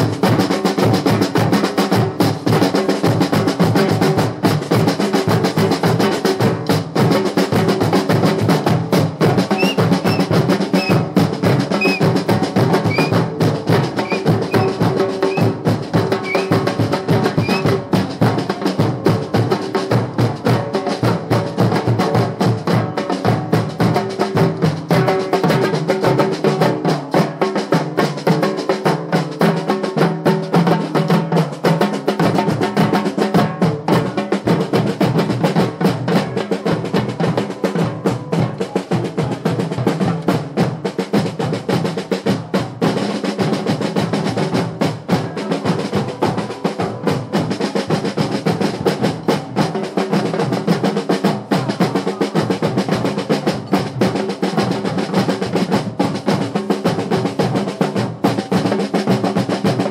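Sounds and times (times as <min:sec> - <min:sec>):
marching drum band: 0:00.0 - 0:59.9.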